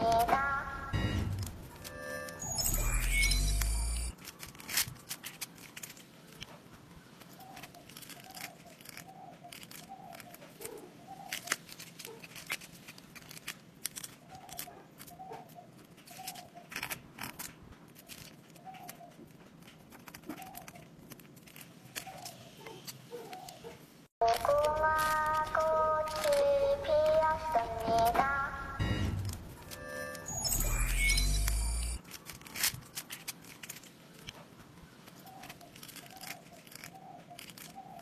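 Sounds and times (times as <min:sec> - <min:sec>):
paper liner crinkling and tearing: 0:01.7 - 0:23.6, 0:24.2 - 0:28.3, 0:29.2 - 0:38.0.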